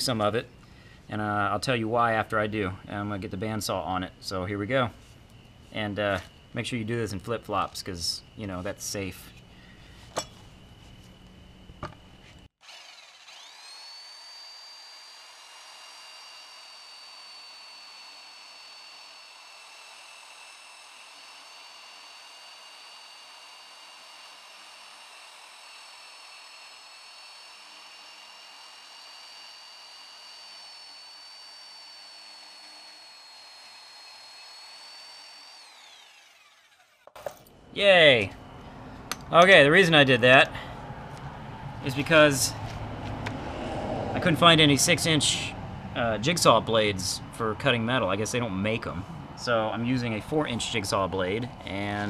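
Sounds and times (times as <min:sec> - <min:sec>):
bandsaw motor whining: 0:03.6 - 0:52.0.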